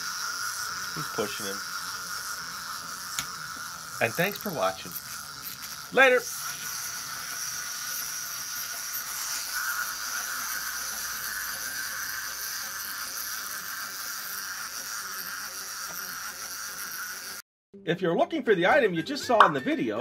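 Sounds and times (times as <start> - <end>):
clockwork toy mechanisms whirring: 0.0 - 17.4.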